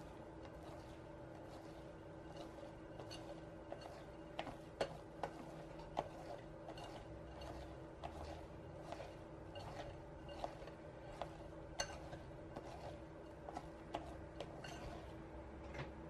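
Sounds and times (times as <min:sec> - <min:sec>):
whisk swishing through batter: 0:00.0 - 0:16.0.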